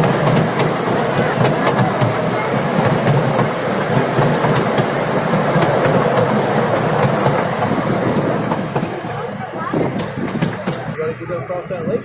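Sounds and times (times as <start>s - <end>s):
train wheels rumbling on track: 0.0s - 12.0s
wheels clicking over rail joints: 0.0s - 12.0s.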